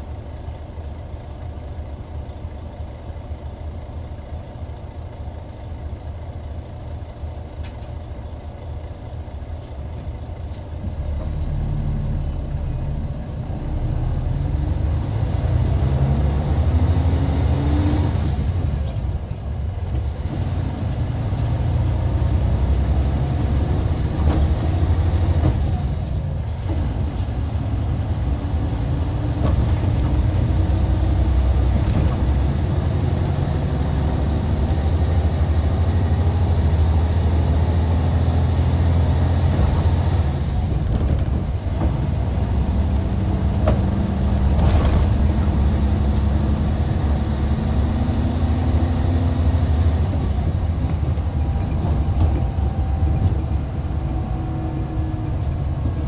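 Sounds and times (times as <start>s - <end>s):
diesel coach engine droning: 0.0s - 56.0s.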